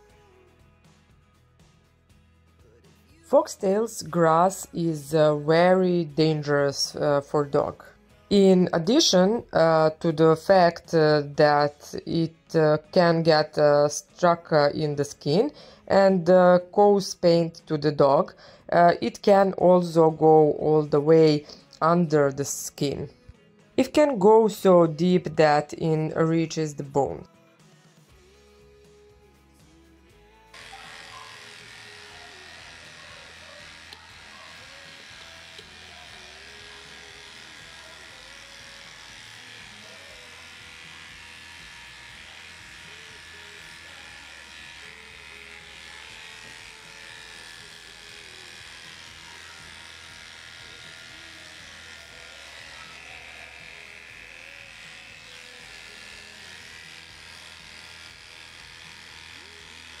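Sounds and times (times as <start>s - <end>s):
quiet background music: 0.0s - 60.0s
electric clipper buzzing: 3.2s - 27.2s, 29.6s - 60.0s.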